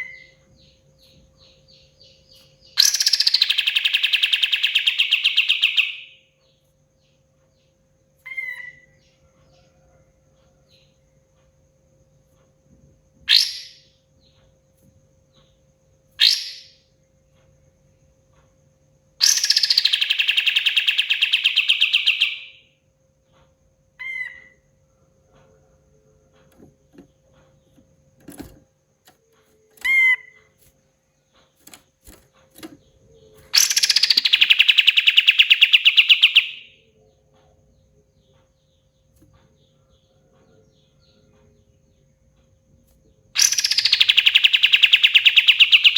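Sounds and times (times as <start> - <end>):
bird singing trills: 0.0 - 9.8, 13.2 - 14.6, 15.3 - 17.4, 19.1 - 45.9
faint steady hum: 0.0 - 45.9.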